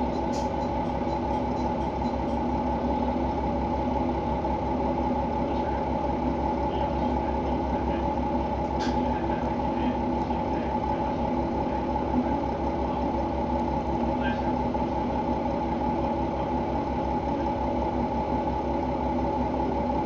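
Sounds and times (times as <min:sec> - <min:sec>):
diesel railcar engine drone: 0:00.0 - 0:20.0.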